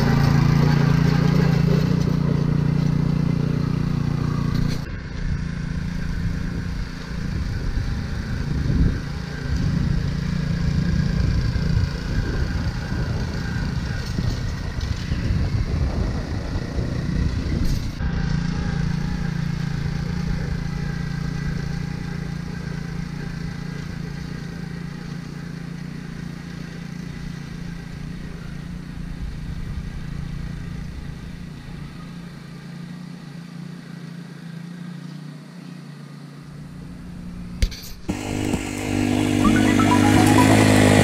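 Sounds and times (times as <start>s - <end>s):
aerator engine running: 0.0s - 32.6s, 35.4s - 41.0s.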